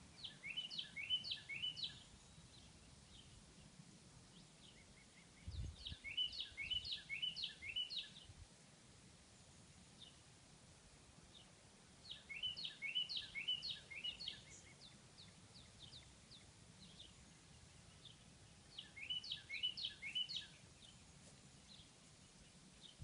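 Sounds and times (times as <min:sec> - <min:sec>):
faint outdoor background: 0:00.0 - 0:23.0
songbird chirping: 0:00.0 - 0:23.0.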